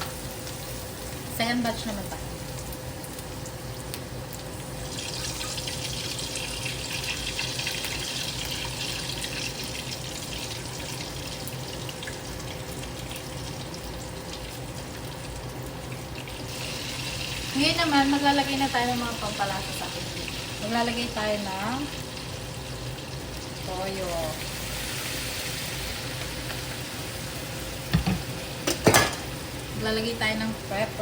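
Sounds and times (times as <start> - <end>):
dumplings sizzling in oil: 0.0 - 31.0.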